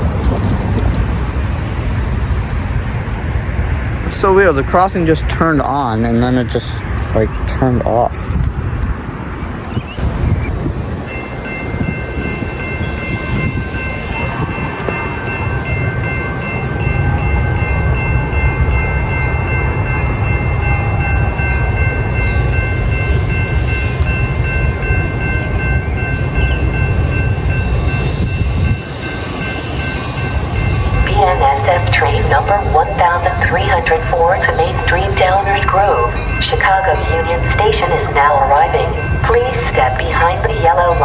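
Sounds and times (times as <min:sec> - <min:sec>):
crossing warning bells ringing: 0:00.0 - 0:41.0
train rumble: 0:00.0 - 0:41.0.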